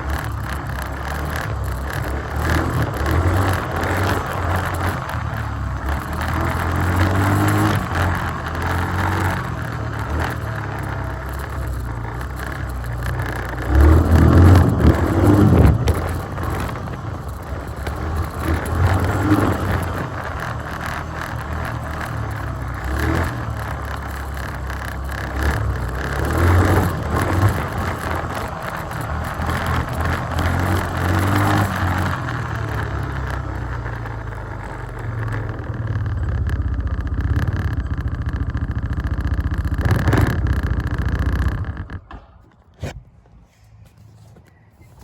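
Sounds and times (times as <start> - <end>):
quad bike engine revving: 0.0 - 43.0.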